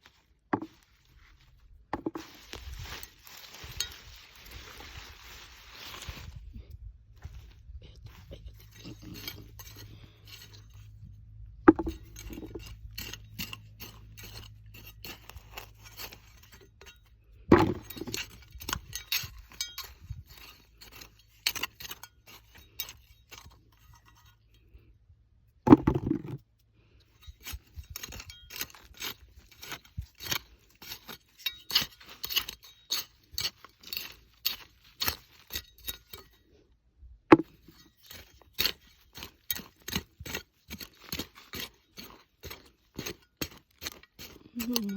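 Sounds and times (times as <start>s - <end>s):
digging soil scrapes and crunches: 0.0s - 24.9s, 27.0s - 36.6s, 37.3s - 44.9s.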